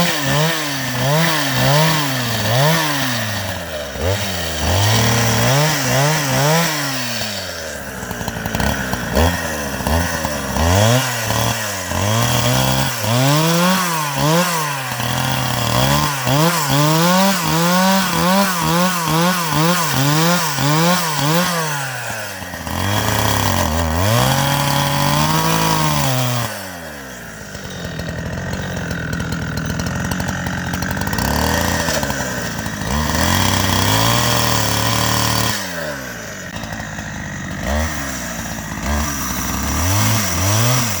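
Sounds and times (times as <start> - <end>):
chainsaw engine revving: 0.0 - 41.0.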